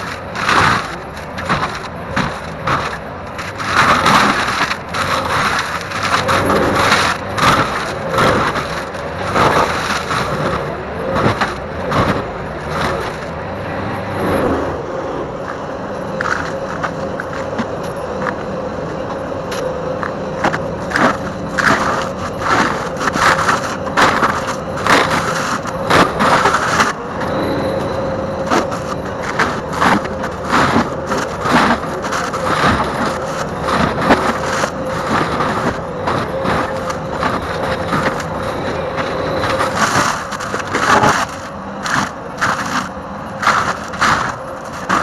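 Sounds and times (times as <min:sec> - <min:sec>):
wood cracking and splintering: 0:00.0 - 0:14.6, 0:15.4 - 0:45.0
forestry mulcher grinding wood: 0:00.0 - 0:45.0.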